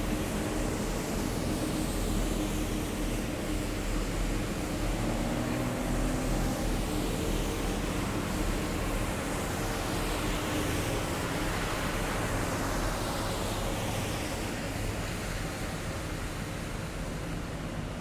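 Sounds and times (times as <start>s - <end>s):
road noise: 0.2s - 18.0s.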